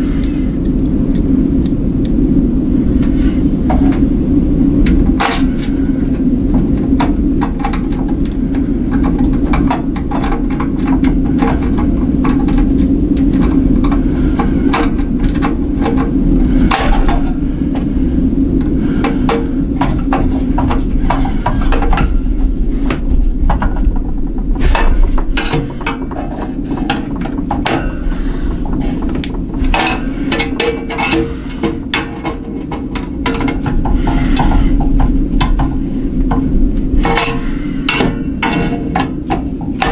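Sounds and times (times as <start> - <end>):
steady low hum: 0.0 - 39.9
hardware clicks and knocks: 3.0 - 39.9.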